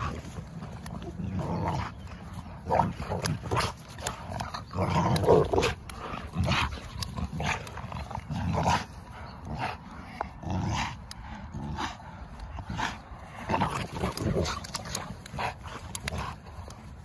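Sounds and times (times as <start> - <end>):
dogs growling in play: 0.0 - 17.0.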